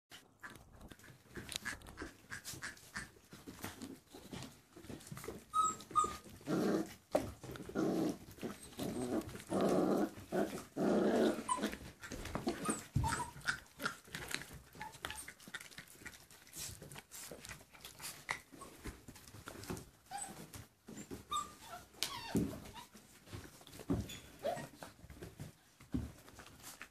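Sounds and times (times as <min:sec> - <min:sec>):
puppies chewing and tearing meat: 0:00.1 - 0:26.9
puppies growling: 0:00.2 - 0:26.8.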